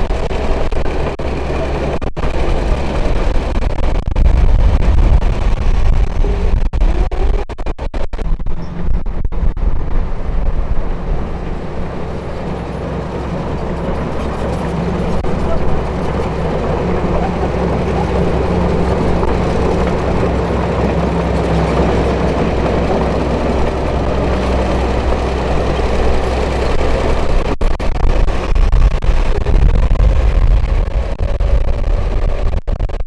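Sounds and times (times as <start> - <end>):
heavy machinery diesel engine: 0.0 - 7.1, 8.6 - 31.8.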